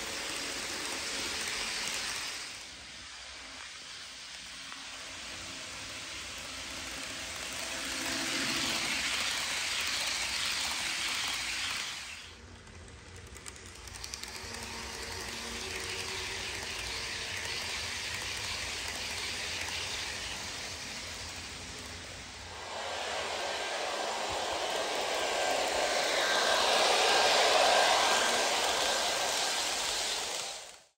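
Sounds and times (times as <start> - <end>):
model train whirring on track: 0.0 - 30.9.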